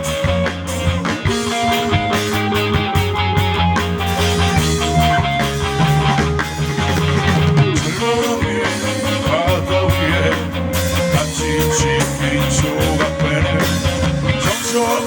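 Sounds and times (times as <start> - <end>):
bass: 0.0 - 15.0
drums and cymbals: 0.0 - 15.0
gliding lead guitar lines: 0.0 - 15.0.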